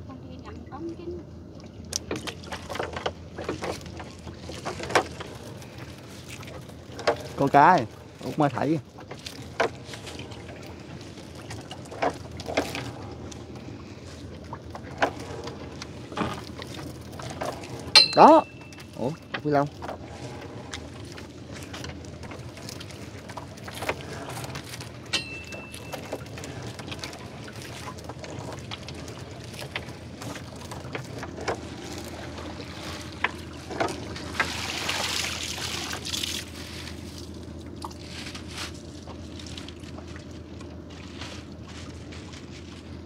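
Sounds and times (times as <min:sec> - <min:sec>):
wet net being hauled: 0:02.1 - 0:43.0.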